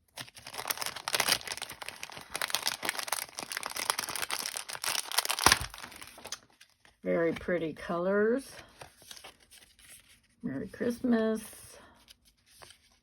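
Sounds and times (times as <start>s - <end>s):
paper rustling and crinkling: 0.0s - 7.5s, 8.6s - 10.4s, 11.9s - 13.0s.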